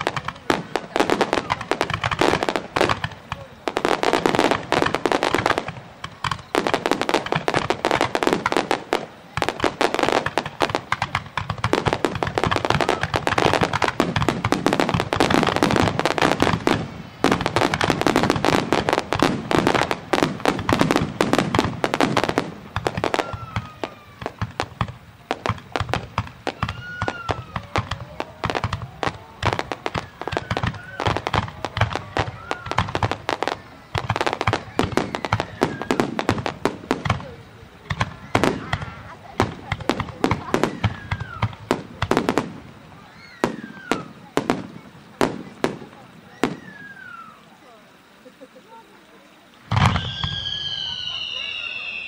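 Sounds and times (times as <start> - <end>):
fireworks bangs and crackling: 0.0 - 52.0
fireworks whistling: 0.0 - 52.0.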